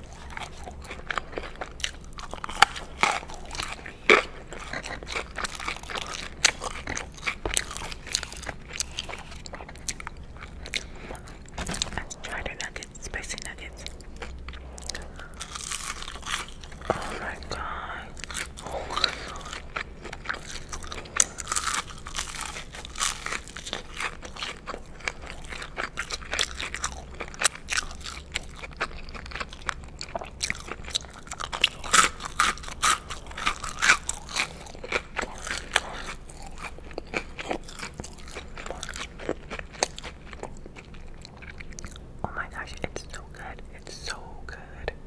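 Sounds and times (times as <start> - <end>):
crunchy chewing: 0.0 - 44.2.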